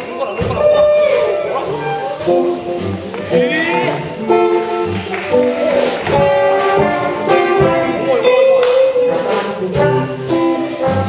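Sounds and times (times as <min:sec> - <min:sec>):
brass band playing jazz: 0:00.6 - 0:11.0.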